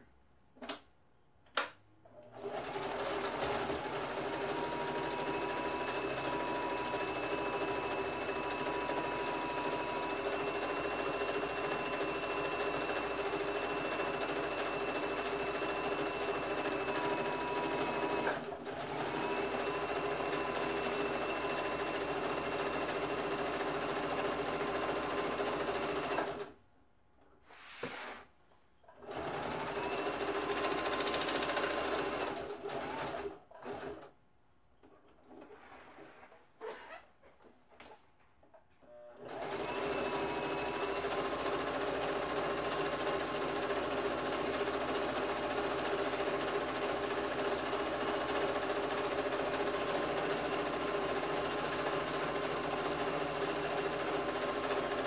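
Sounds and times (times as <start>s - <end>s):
sewing machine running: 2.3s - 26.6s, 29.0s - 34.1s, 39.2s - 55.0s.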